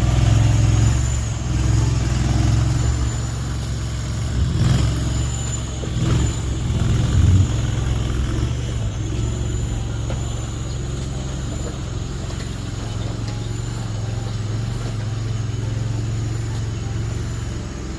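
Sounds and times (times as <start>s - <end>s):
skid steer engine running: 0.0s - 17.9s.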